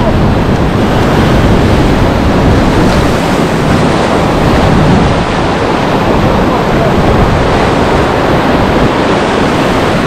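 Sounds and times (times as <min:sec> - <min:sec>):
surf breaking over rocks: 0:00.0 - 0:10.0
wind rumbling on microphone: 0:00.0 - 0:10.0.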